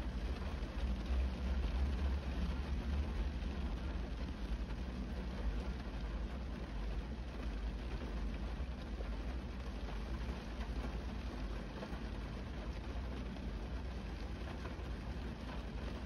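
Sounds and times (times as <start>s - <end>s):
rain on a car windshield: 0.0s - 16.0s.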